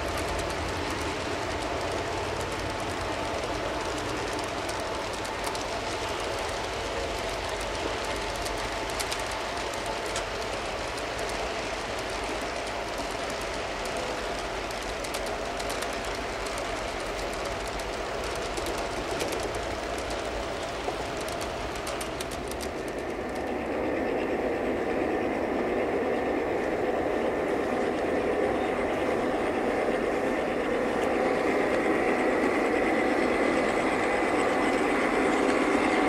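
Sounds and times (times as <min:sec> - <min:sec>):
model train wheels rolling: 0:00.0 - 0:36.0.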